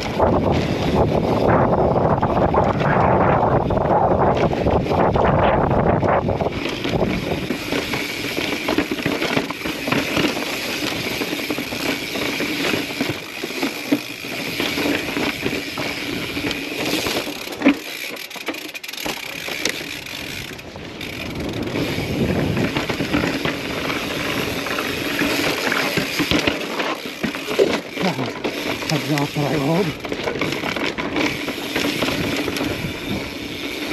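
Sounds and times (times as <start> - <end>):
bike rattling over rock: 0.0 - 33.9
freehub ratcheting: 3.5 - 33.9.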